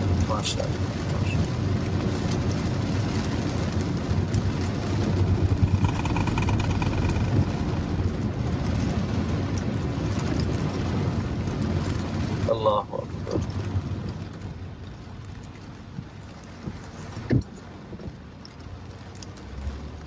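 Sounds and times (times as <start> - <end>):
tyres and road noise: 0.0 - 20.0.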